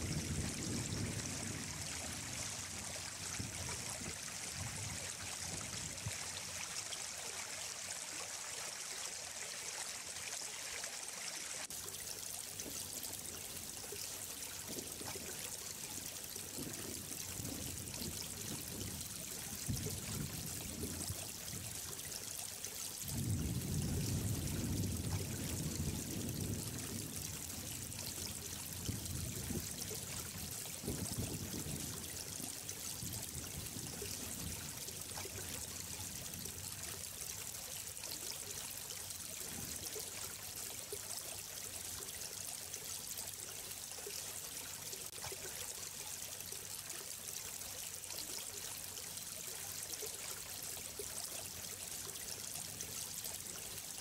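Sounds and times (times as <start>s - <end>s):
deep water rush: 0.0s - 54.0s
water flowing and trickling: 0.0s - 54.0s.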